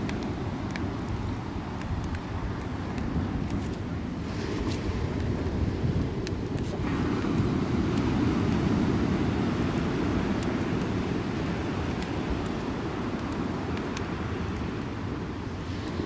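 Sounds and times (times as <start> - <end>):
burning logs popping: 0.0 - 16.0
wind rumble on microphone: 0.0 - 16.0
wood fire crackling: 0.0 - 16.0.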